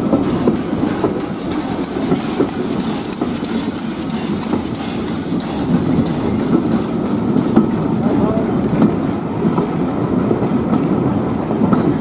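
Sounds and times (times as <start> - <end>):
train carriage rumble and rattle: 0.0 - 12.0.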